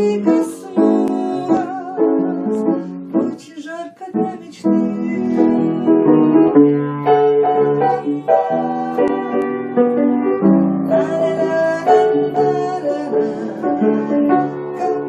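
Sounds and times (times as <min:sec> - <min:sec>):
instrumental keyboard music: 0:00.0 - 0:15.0.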